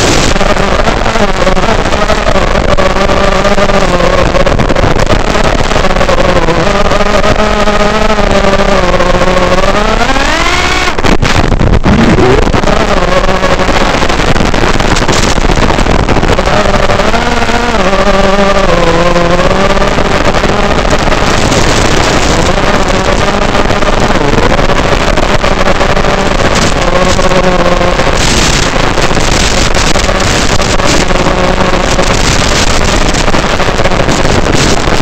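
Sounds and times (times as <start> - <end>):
drone motors whining: 0.0 - 35.0
rushing air noise: 0.0 - 35.0.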